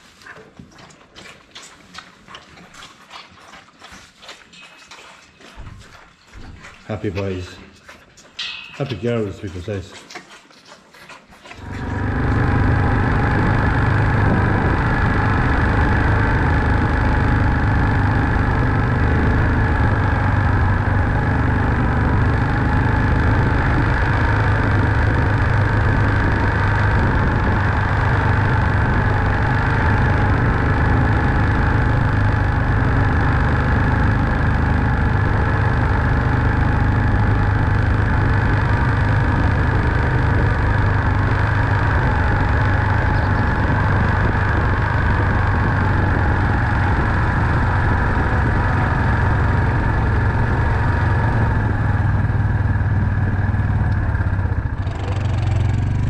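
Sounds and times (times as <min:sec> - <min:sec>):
farm vehicle engine running: 0:05.7 - 0:07.6, 0:11.5 - 0:56.0.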